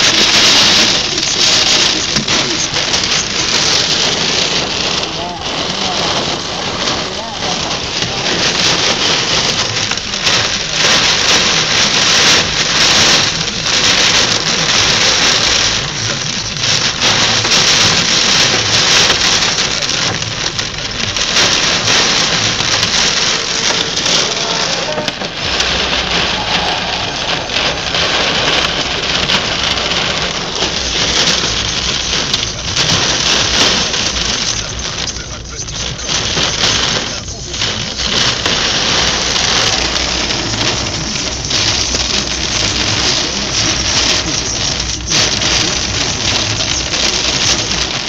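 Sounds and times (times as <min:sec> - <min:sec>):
heavy rain on car roof: 0:00.0 - 0:48.0.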